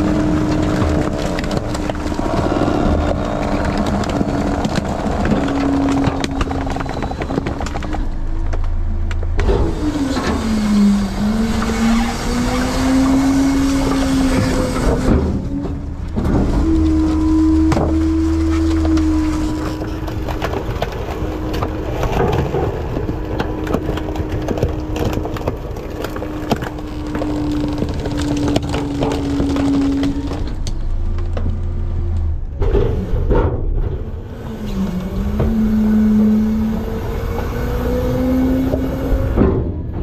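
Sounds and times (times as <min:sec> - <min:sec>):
garbage truck engine running: 0:00.0 - 0:40.0.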